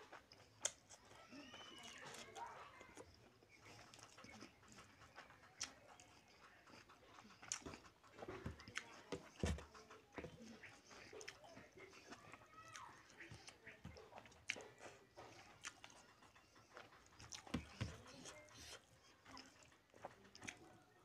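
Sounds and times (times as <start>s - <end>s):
mouth chewing and lip-smacking: 0.0s - 21.0s
wet squelches of fingers mixing food: 0.0s - 21.0s.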